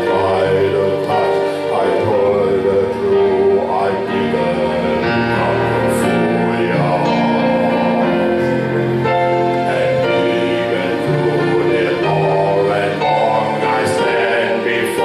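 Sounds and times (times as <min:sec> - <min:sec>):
gospel group singing: 0:00.0 - 0:15.0
instrumental accompaniment: 0:00.0 - 0:15.0.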